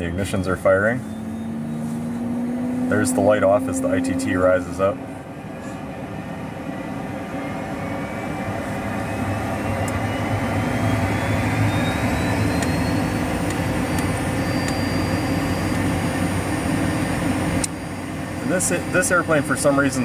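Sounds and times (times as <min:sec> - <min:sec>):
low hum: 0:00.0 - 0:19.4
jet engine whine spooling up: 0:00.0 - 0:20.0.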